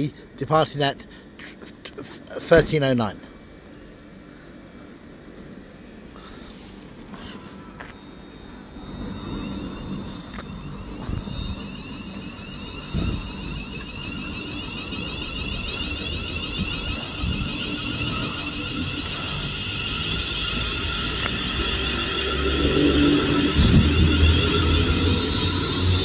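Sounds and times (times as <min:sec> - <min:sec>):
low train rumble: 0:00.0 - 0:26.0
train motor whine: 0:03.6 - 0:26.0.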